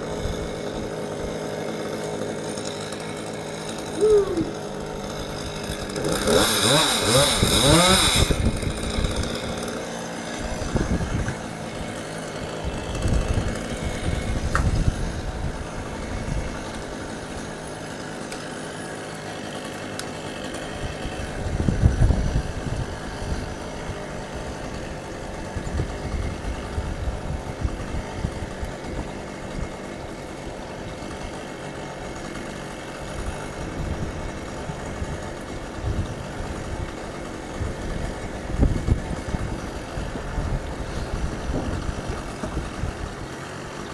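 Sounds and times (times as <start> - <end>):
engine idling: 0.0 - 43.9.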